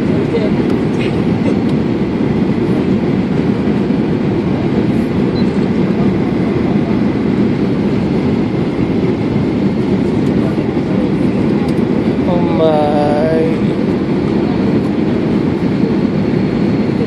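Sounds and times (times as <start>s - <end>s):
airliner engine rumble in cabin: 0.0s - 17.0s.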